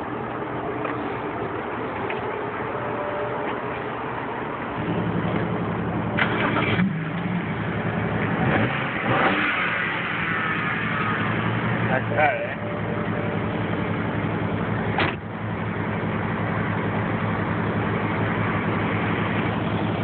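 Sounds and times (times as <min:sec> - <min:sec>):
car engine starting and idling: 0:00.0 - 0:20.0.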